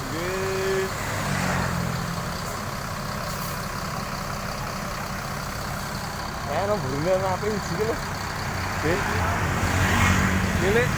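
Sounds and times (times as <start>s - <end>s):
heavy vehicle engine drone: 0.0s - 10.9s.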